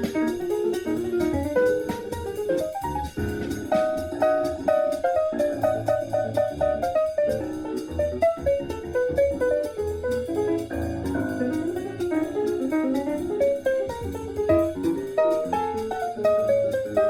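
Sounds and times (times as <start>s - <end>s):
instrumental jazz music: 0.0s - 17.0s.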